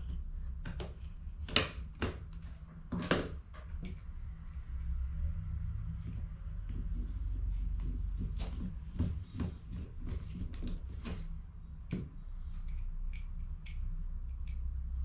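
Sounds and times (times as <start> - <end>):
steady low hum: 2.4 - 15.0.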